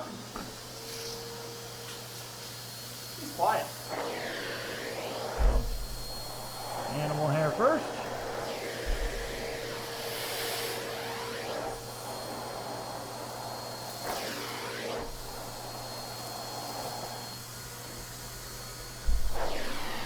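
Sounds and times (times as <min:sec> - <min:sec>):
vacuum cleaner running: 0:00.0 - 0:20.0
vacuum tool on carpet: 0:00.0 - 0:20.0.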